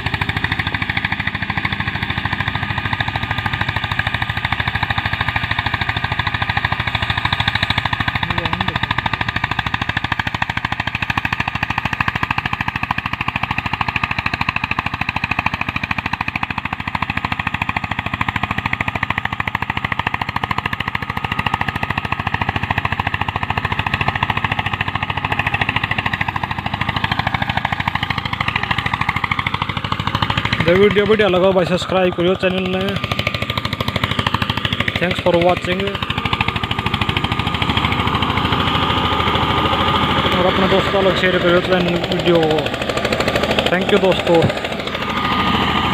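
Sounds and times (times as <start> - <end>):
tractor diesel engine thudding: 0.0 - 45.9.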